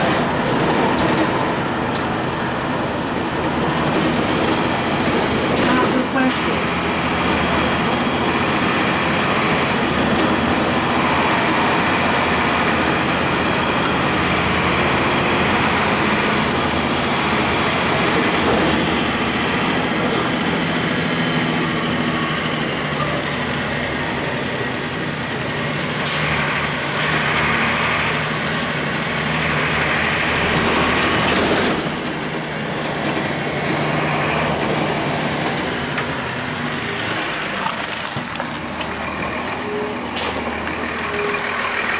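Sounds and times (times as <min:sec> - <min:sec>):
bus engine running: 0:00.0 - 0:41.9.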